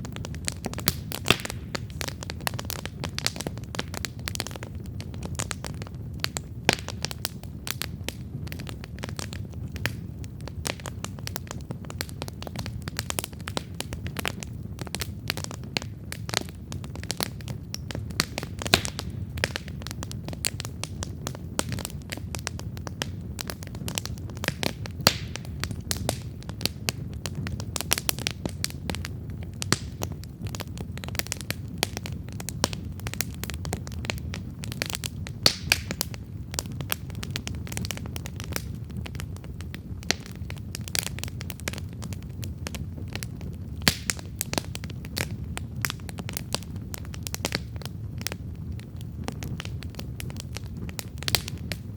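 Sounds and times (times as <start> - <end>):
campfire crackling and popping: 0.0 - 51.9
flames rushing: 0.0 - 51.9.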